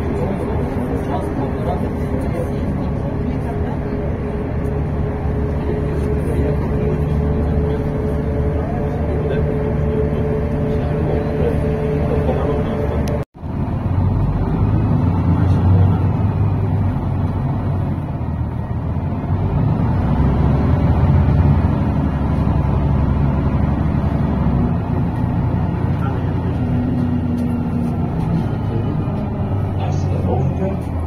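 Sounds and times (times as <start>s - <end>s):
bus engine and road noise: 0.0s - 31.0s.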